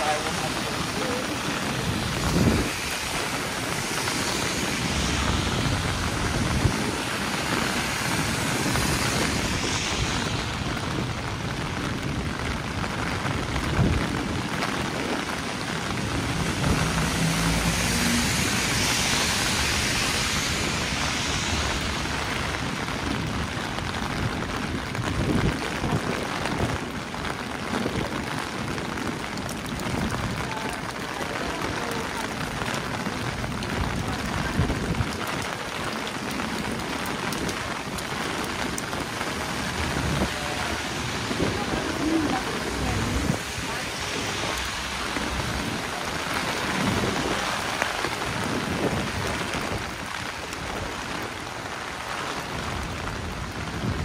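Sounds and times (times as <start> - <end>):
heavy rain: 0.0 - 54.0
traffic hiss on wet streets: 0.0 - 54.0.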